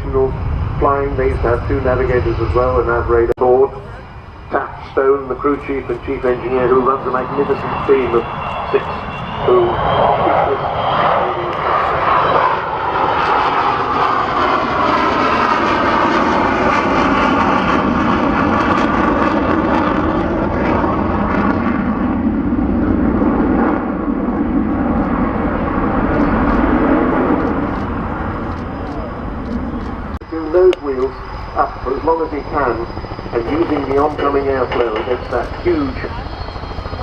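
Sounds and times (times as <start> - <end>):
jet bomber engines in flight: 0.0 - 37.0.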